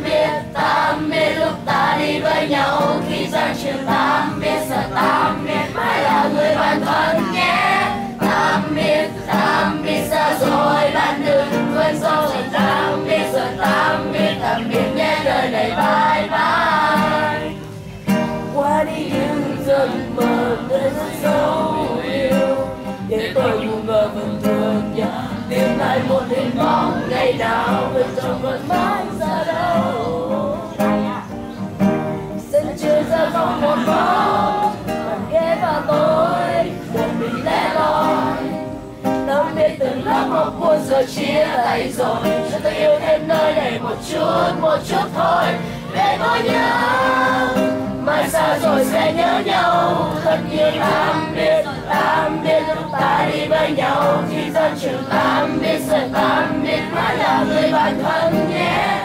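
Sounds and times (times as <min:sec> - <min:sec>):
group singing in unison: 0:00.0 - 0:59.0.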